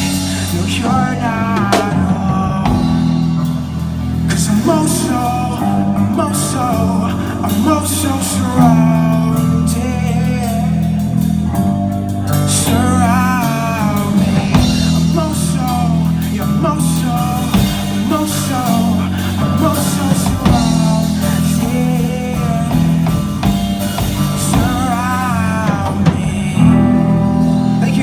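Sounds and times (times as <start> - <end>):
live pop-rock band playing: 0.0 - 28.0.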